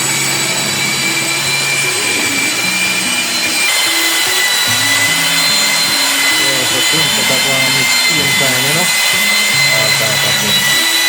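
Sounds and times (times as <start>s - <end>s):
drill paddle mixer whining: 0.0s - 11.0s.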